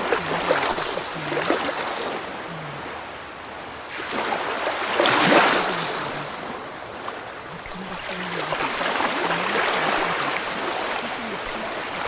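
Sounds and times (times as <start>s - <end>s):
ocean waves washing in: 0.0s - 12.0s.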